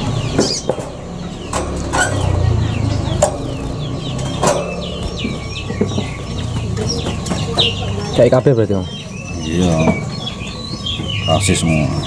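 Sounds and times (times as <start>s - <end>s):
chickens clucking: 0.0s - 12.0s
small birds chirping: 0.0s - 12.0s.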